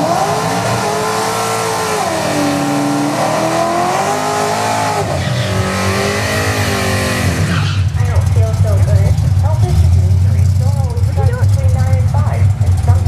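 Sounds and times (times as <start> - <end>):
drag car engine revving: 0.0 - 13.0.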